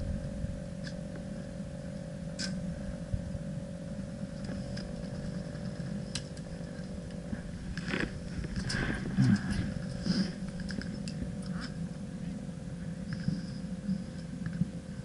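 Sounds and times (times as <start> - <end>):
mid-pitched hum: 0.0 - 15.0
wind rumble on microphone: 0.0 - 15.0.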